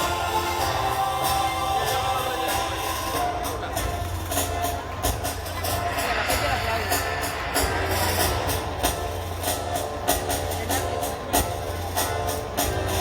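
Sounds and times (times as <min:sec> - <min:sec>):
drum beat: 0:00.0 - 0:13.0
wind instrument melody: 0:00.0 - 0:13.0.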